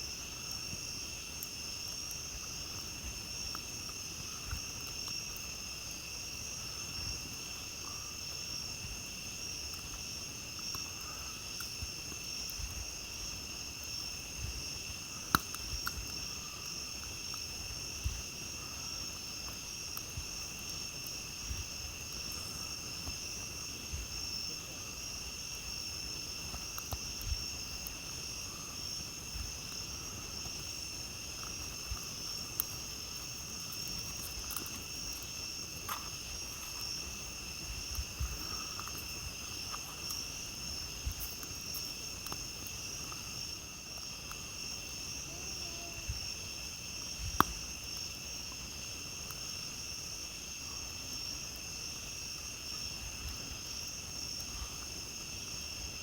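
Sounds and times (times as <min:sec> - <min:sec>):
campfire crackling: 0:00.0 - 0:56.0
night insects chorus: 0:00.0 - 0:56.0.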